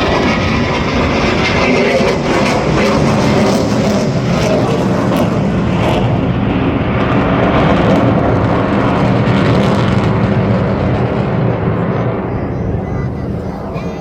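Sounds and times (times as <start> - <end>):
aircraft engine flying past: 0.0 - 14.0.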